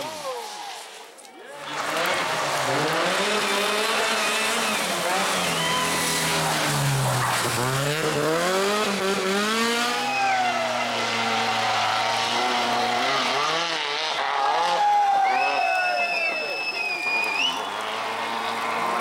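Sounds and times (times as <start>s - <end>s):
rally car engine at high revs: 1.6s - 15.5s, 16.6s - 19.0s.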